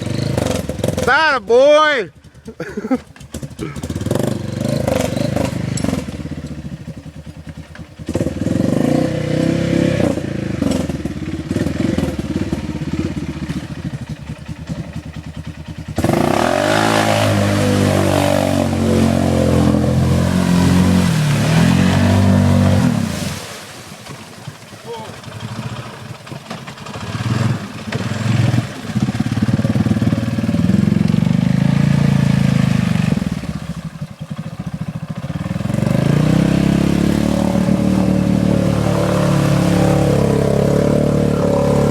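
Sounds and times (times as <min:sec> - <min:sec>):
atv engine revving: 0:00.0 - 0:23.5, 0:24.4 - 0:41.9.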